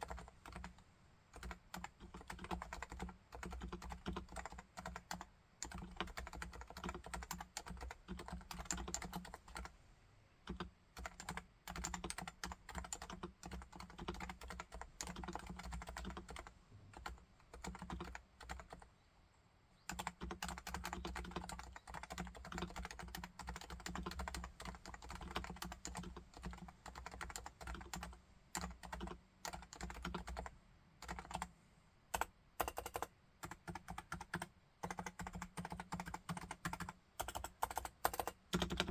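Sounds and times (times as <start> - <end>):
soft damped keyboard typing: 0.0 - 9.8, 10.4 - 18.9, 19.9 - 38.9.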